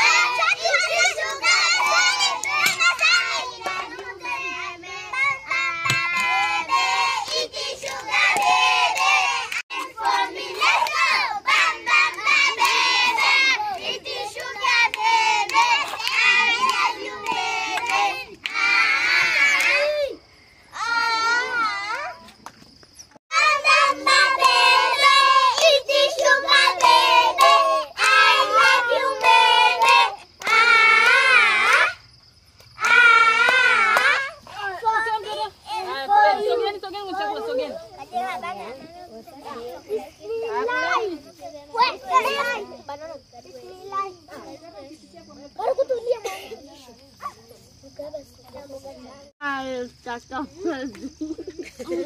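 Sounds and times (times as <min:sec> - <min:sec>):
children shouting and singing: 0:00.0 - 0:22.4, 0:23.3 - 0:32.1, 0:32.7 - 0:49.4.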